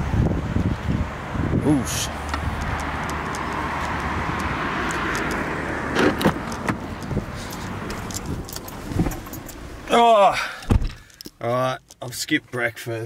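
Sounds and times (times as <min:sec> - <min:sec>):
car passing: 0:00.0 - 0:11.1
road traffic noise: 0:00.0 - 0:13.0.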